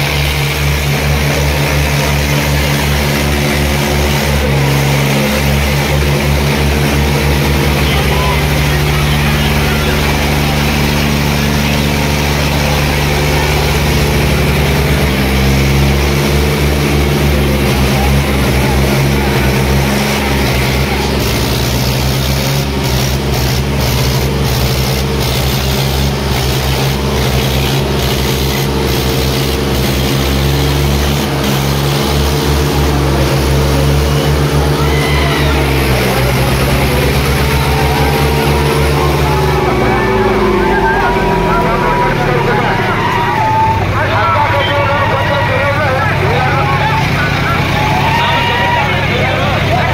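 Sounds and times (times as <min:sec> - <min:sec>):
diesel tractor engines running hard: 0:00.0 - 0:49.9.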